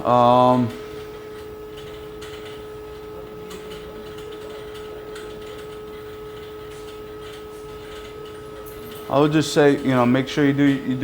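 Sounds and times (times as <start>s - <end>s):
mechanical equipment hum: 0.0s - 11.0s.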